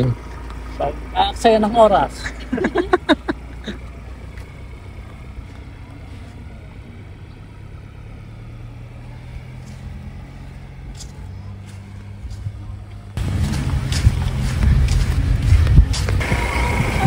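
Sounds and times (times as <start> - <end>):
pickup truck engine droning: 0.0 - 17.0.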